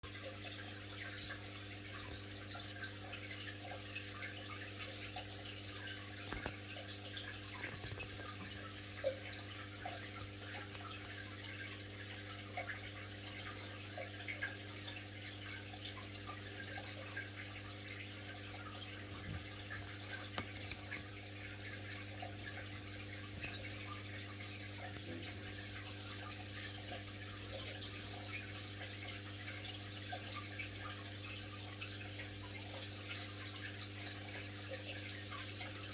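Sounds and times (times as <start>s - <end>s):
water trickling and fizzing: 0.0s - 35.9s
aquarium filter hum: 0.1s - 35.9s.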